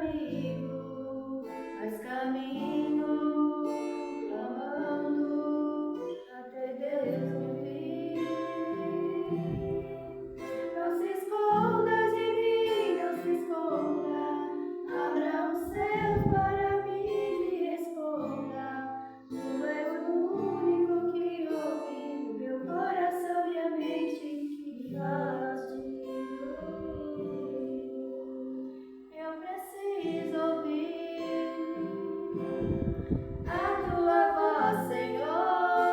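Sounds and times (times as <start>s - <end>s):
acoustic guitar: 0.0s - 35.9s
women singing a hymn: 0.0s - 35.9s.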